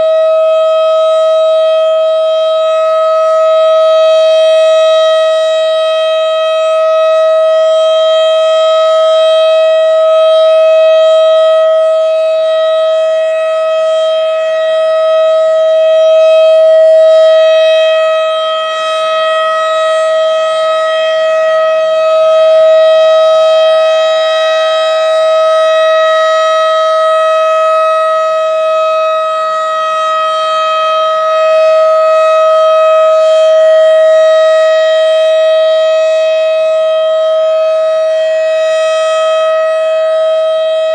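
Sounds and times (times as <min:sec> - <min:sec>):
siren steady tone: 0:00.0 - 0:40.9.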